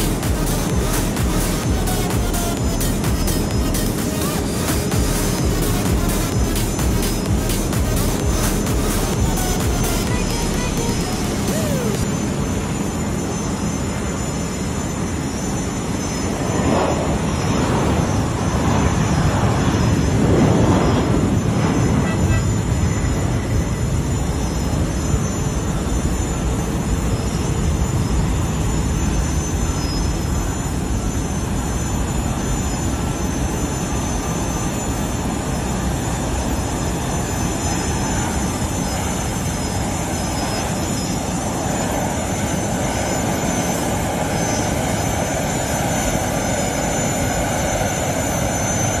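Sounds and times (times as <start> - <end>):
high engine whine: 0.0 - 49.0
jet engine running: 0.0 - 49.0.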